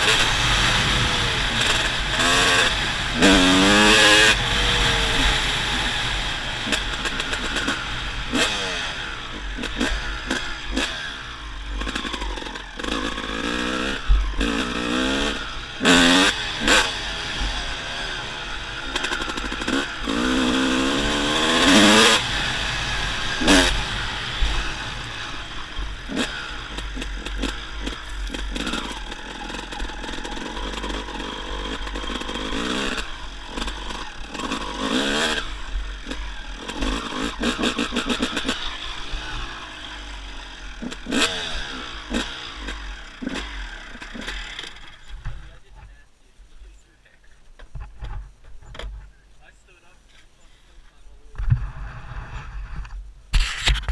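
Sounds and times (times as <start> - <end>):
dirt bike engine revving: 0.0 - 45.8.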